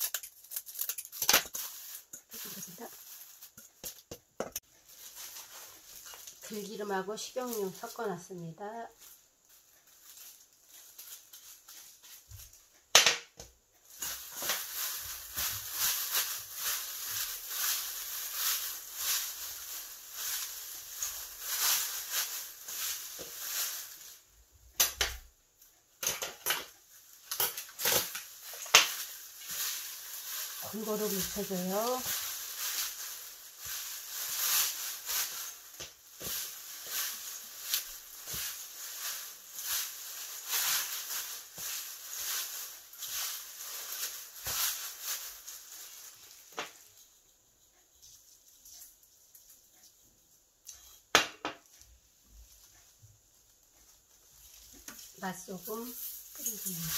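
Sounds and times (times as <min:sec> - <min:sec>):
crackling rustle of dried seaweed: 0:00.0 - 0:12.9, 0:13.8 - 0:25.3, 0:25.9 - 0:50.0, 0:51.7 - 0:56.9.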